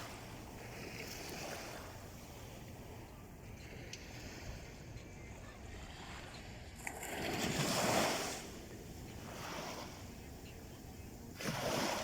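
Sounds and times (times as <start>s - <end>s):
sea waves washing in: 0.0s - 5.0s, 5.7s - 12.0s.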